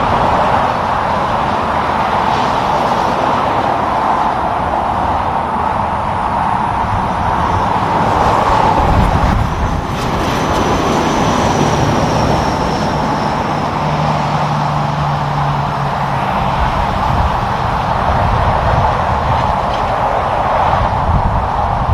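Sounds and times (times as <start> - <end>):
highway traffic passing: 0.0 - 21.9
truck engine drone: 0.0 - 21.9.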